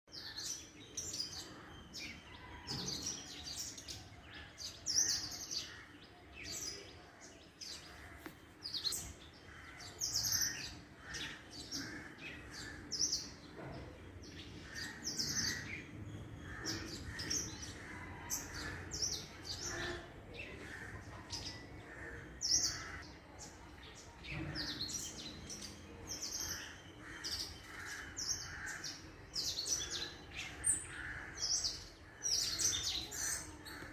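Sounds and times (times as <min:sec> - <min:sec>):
small birds chirping and singing: 0:00.1 - 0:33.9.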